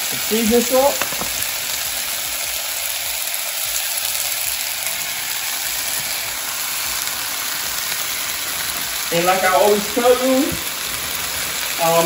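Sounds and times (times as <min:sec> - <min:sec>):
potatoes sizzling in a frying pan: 0:00.0 - 0:12.0.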